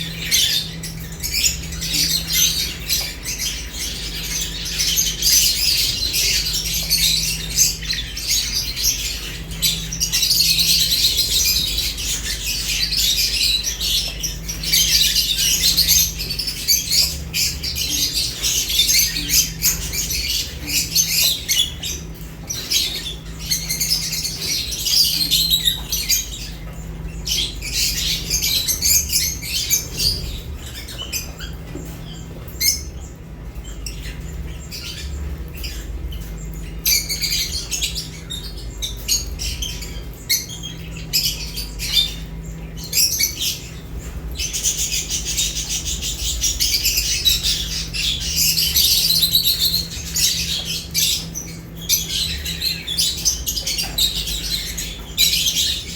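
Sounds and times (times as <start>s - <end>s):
birds chirping and chattering: 0.0s - 55.9s.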